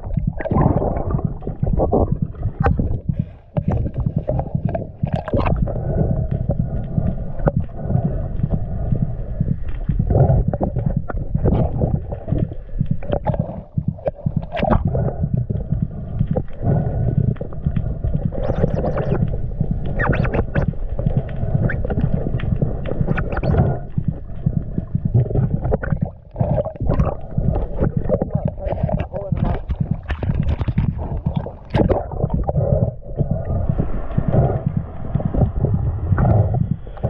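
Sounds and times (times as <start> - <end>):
underwater rumble and gurgling: 0.0 - 37.0.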